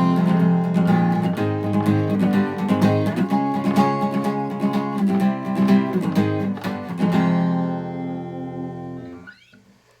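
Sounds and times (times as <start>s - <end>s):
acoustic guitar chord ringing: 0.0s - 9.4s.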